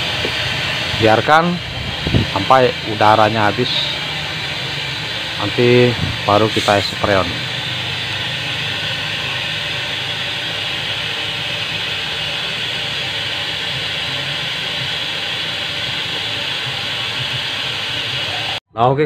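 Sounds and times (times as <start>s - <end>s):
air hissing from a tube: 0.0s - 18.6s.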